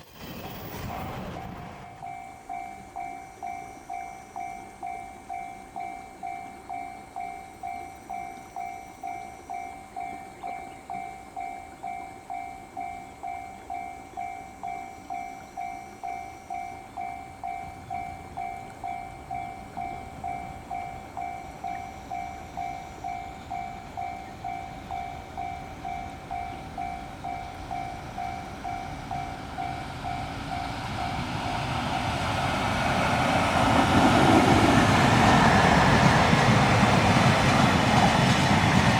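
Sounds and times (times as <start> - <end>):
freight train approaching: 0.0 - 38.9
level crossing warning bell: 1.2 - 38.3.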